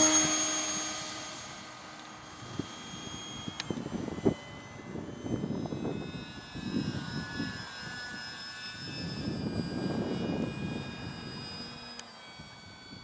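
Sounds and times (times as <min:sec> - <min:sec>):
wind buffeting microphone: 0:00.0 - 0:11.8
model plane propeller whine: 0:00.0 - 0:13.0.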